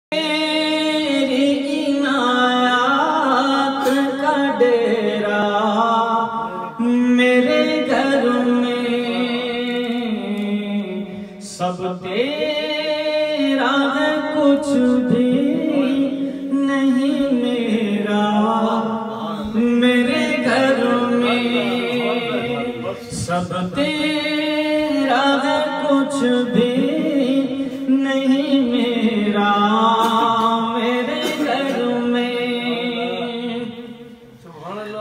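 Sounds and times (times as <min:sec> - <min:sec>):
man singing into microphone: 0:00.1 - 0:35.0.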